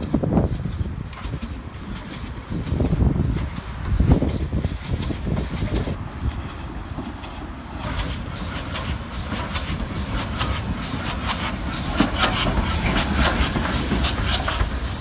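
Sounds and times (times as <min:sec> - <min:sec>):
locomotive low rumble: 0:00.0 - 0:15.0
train wheels clicking over rail joints: 0:00.0 - 0:15.0.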